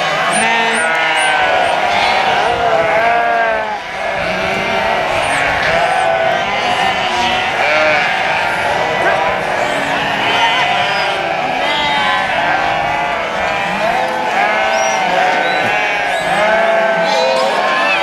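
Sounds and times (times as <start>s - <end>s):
flock of sheep bleating: 0.0s - 18.0s.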